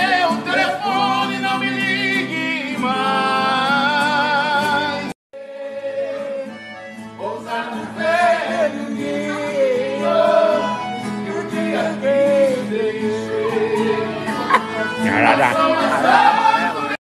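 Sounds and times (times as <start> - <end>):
music with singing voices: 0.0 - 17.0
sung song: 0.0 - 17.0.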